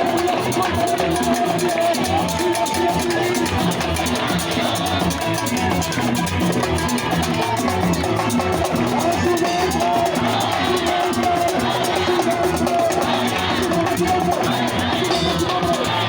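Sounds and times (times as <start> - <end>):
band playing music: 0.0 - 16.0.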